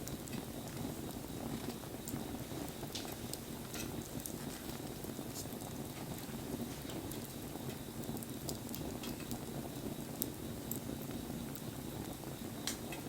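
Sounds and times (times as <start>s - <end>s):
rain pattering: 0.0s - 13.0s
wood fire crackling and popping: 0.0s - 13.0s.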